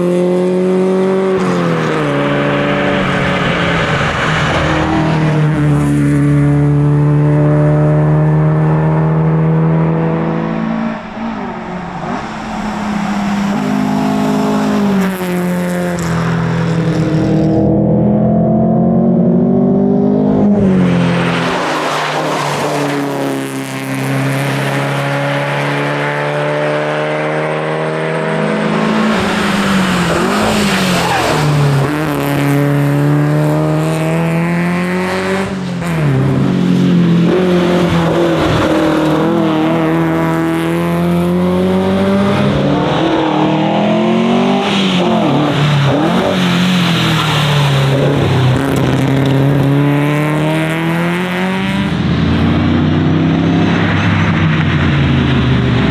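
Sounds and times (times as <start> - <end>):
rally car engine revving: 0.0 - 55.9
road and tyre noise: 0.0 - 55.9.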